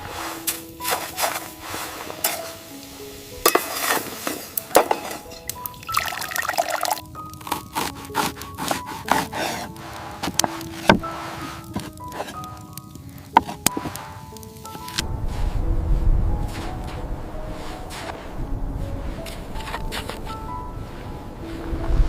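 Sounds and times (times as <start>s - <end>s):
slow background music: 0.0s - 22.0s.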